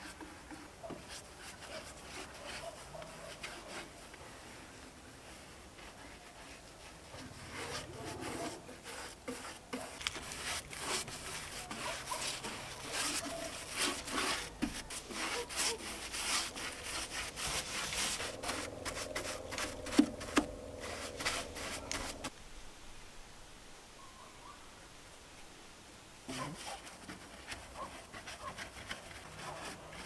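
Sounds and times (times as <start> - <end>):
paintbrush rubbing on wood: 0.0 - 4.1, 4.7 - 22.3, 26.3 - 30.0.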